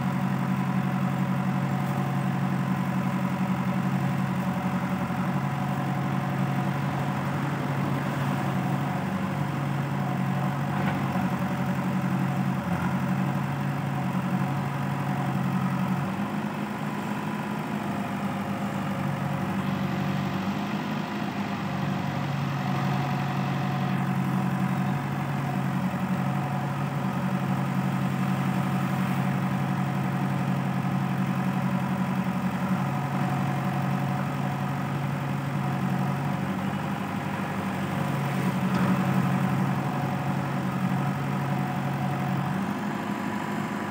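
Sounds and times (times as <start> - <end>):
diesel engines humming: 0.0 - 43.9.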